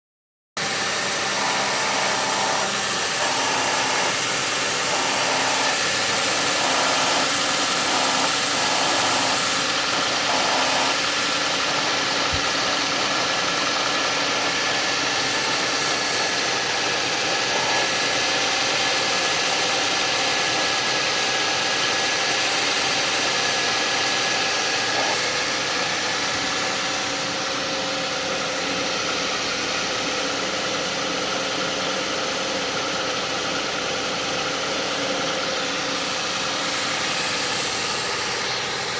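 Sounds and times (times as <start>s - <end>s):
steady grinding noise: 0.6s - 30.2s, 33.2s - 38.9s.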